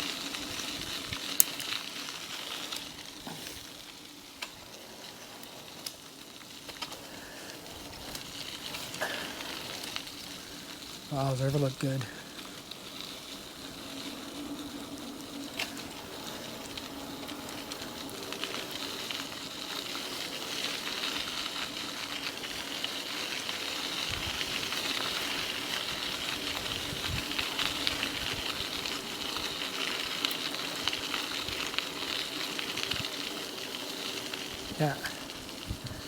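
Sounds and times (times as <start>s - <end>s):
bike tyres rolling hiss: 0.0s - 36.0s
faint electric motor hum: 3.6s - 36.0s.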